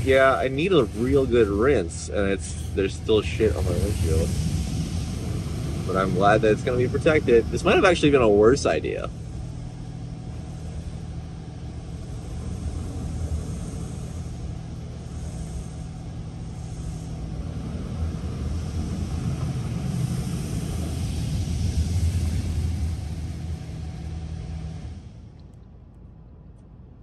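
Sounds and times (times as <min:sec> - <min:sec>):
water and foam spraying: 0:00.0 - 0:09.5, 0:11.7 - 0:25.1
car engine idling: 0:00.0 - 0:25.9
car wash machinery drone: 0:00.0 - 0:27.0.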